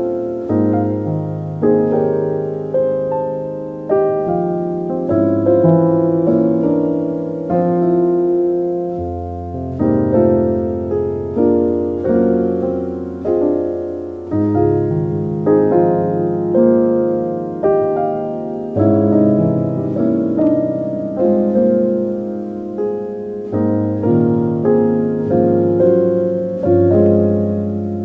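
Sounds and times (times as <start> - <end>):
slow soft piano music: 0.0 - 28.0.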